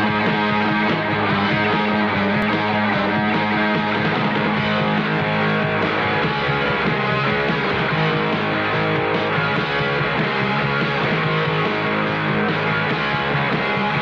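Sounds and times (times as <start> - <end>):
punk rock song: 0.0 - 14.0.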